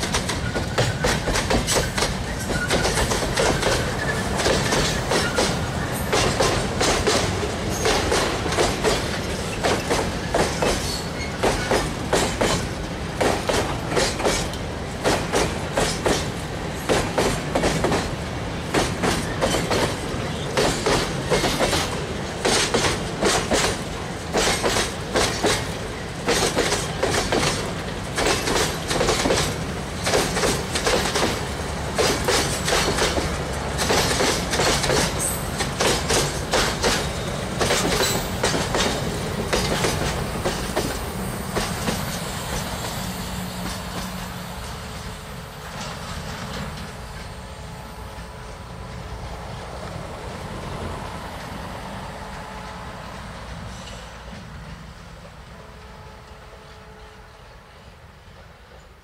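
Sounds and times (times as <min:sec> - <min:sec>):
train wheels clacking over rail joints: 0:00.0 - 0:50.0
steady train rumble: 0:00.0 - 0:59.0.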